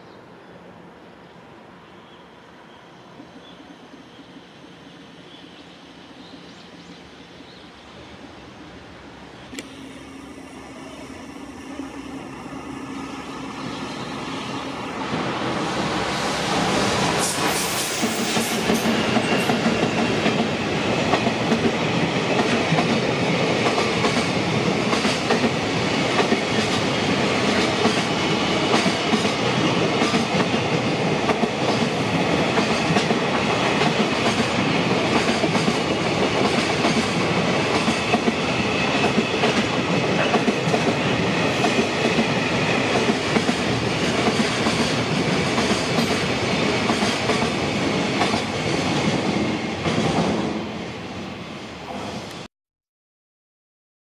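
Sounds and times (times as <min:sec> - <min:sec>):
freight train wheels rumbling: 0:03.2 - 0:52.4.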